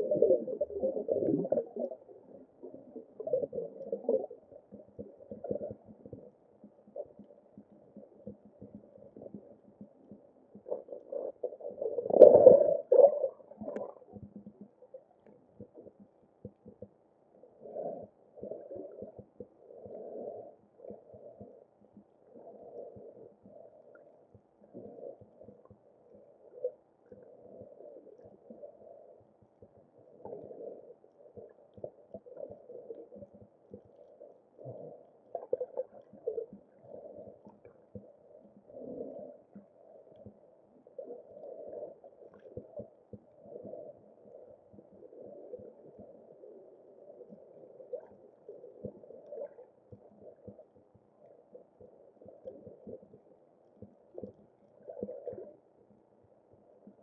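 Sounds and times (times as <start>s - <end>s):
faint clicks: 0.1s - 17.0s, 20.6s - 57.0s.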